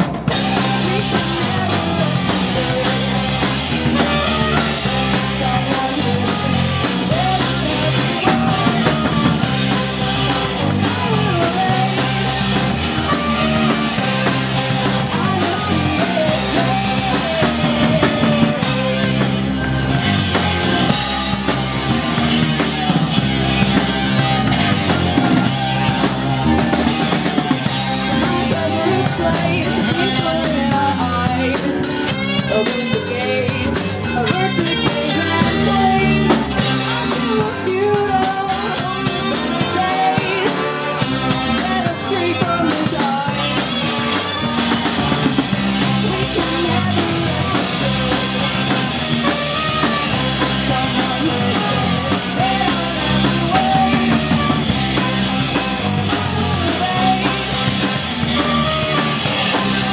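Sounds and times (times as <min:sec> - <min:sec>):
ska punk band playing live: 0:00.0 - 0:59.9.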